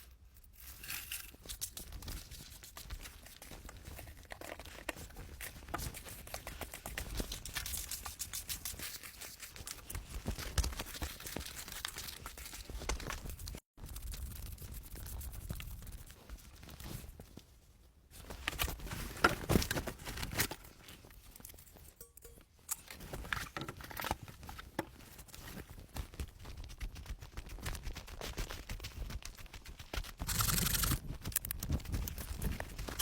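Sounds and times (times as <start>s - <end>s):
rustling and crinkling handling: 0.1s - 14.2s, 15.1s - 33.0s.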